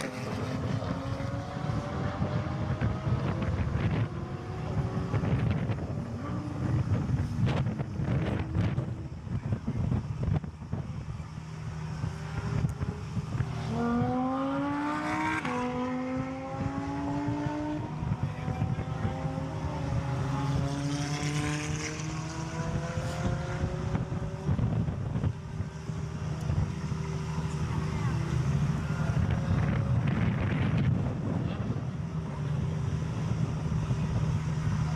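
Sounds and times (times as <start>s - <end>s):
car engine accelerating hard: 0.0s - 34.9s
wind rumble on microphone: 0.0s - 34.9s.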